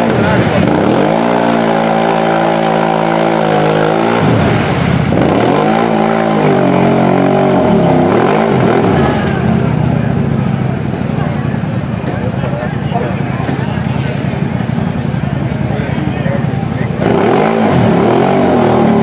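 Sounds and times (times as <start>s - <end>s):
atv engine revving: 0.0s - 19.0s
tyres churning through mud: 0.0s - 19.0s.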